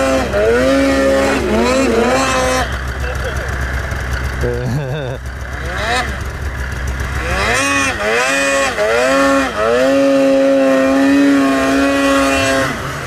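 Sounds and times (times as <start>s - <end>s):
snowmobile engine running hard: 0.0s - 13.0s.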